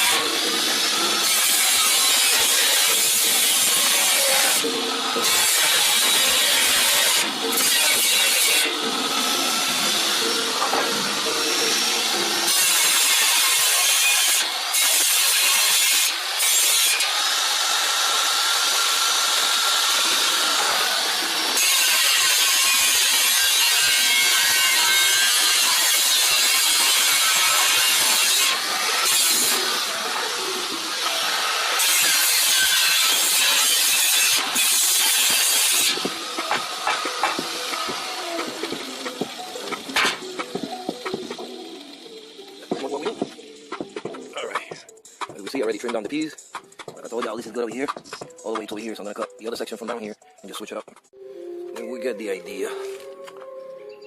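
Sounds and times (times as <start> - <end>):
power tool cutting sheet steel: 0.0 - 44.3.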